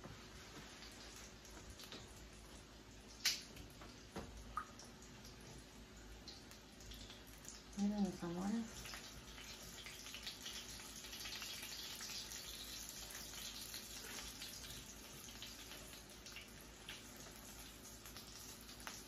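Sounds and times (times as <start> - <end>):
oil sizzling in a pan: 0.0 - 19.0
small crackles and pops: 0.0 - 19.0.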